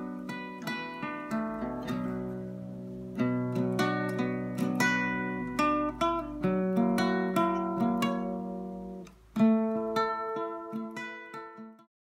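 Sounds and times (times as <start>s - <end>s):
acoustic guitar chords ringing: 0.0s - 11.8s.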